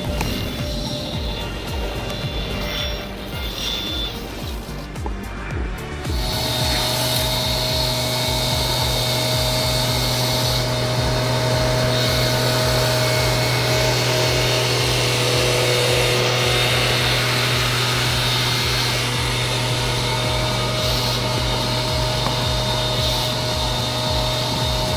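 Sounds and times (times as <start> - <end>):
machine droning: 0.0 - 24.9.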